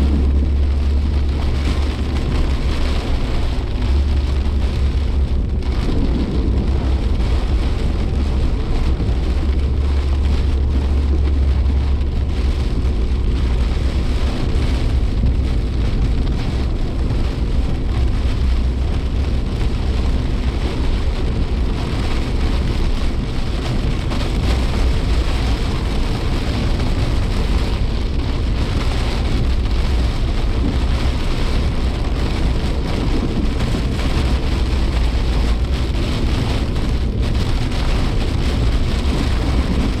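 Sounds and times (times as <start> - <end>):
car engine and tyres drone: 0.0 - 40.0
rain on car body and windscreen: 0.0 - 40.0.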